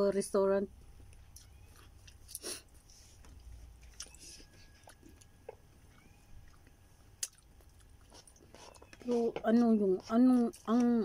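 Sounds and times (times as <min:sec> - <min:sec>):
faint chewing: 0:01.0 - 0:11.0.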